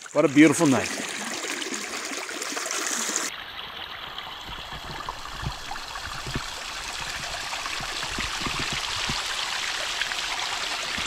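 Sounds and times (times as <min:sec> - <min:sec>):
water trickling and dripping: 0:00.0 - 0:11.0
river flowing: 0:00.6 - 0:11.0.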